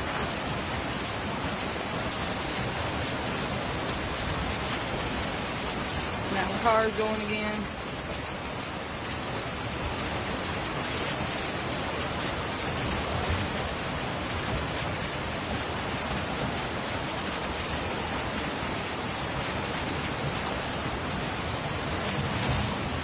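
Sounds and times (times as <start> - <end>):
river rushing in flood: 0.0 - 23.0.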